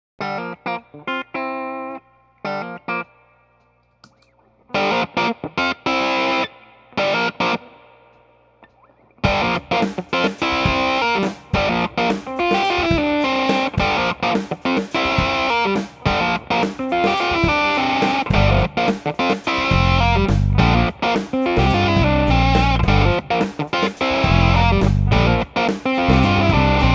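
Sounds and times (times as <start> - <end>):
fuzzed electric guitar: 0.2 - 26.9.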